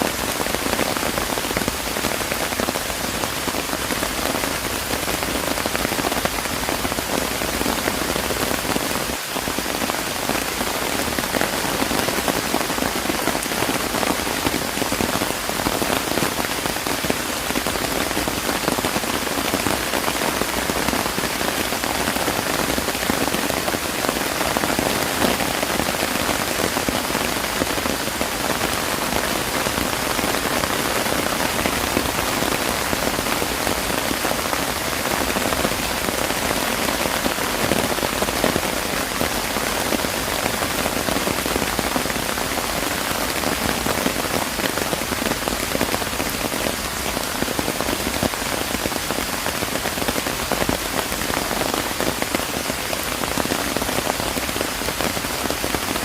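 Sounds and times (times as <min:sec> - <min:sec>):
rain patter on surfaces: 0:00.0 - 0:56.0.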